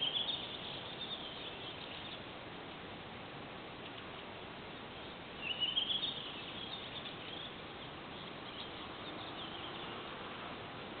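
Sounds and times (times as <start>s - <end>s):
birds chirping: 0.0s - 2.8s, 3.7s - 11.0s
steady background hiss: 0.0s - 11.0s.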